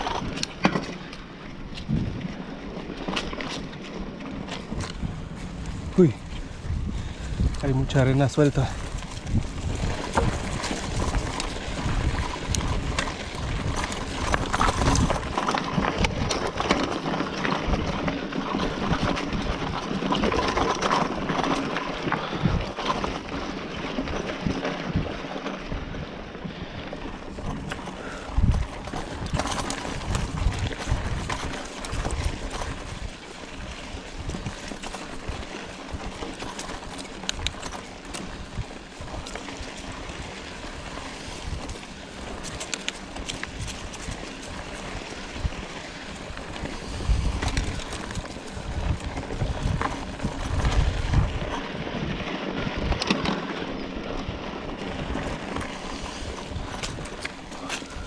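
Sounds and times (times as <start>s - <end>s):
bike knocking and rattling: 0.0s - 58.0s
bike tyres crunching on dirt: 0.0s - 58.0s.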